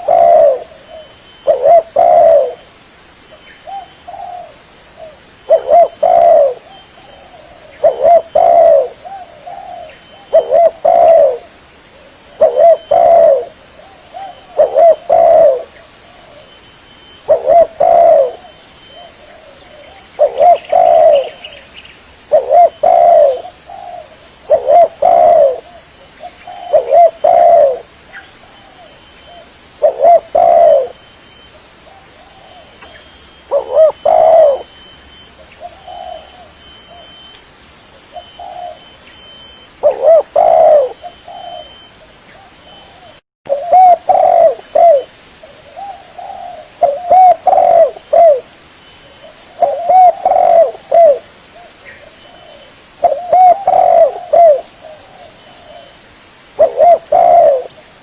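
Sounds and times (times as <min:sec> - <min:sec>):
dove cooing: 0:00.0 - 0:02.7, 0:03.6 - 0:37.3, 0:38.0 - 0:56.0, 0:56.6 - 0:57.9.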